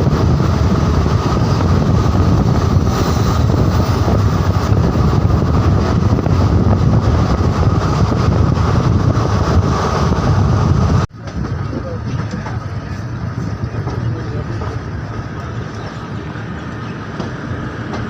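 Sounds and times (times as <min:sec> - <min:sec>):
moving vehicle rumble: 0:00.0 - 0:18.0
wind noise: 0:00.0 - 0:18.0.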